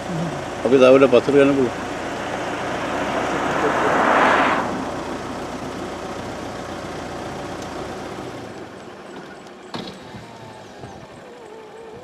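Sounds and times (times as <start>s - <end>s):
motorcycle engine slowing: 0.0s - 12.0s.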